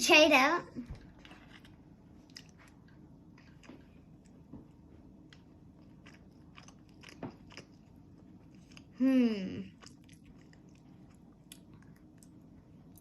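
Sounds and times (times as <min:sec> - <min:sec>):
person chewing: 0:01.1 - 0:13.0.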